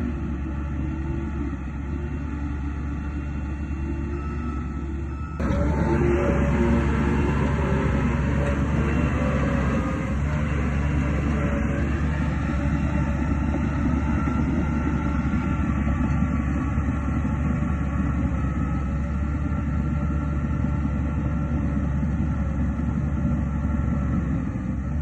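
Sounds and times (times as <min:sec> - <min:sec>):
diesel engine rumble: 0:00.0 - 0:25.0.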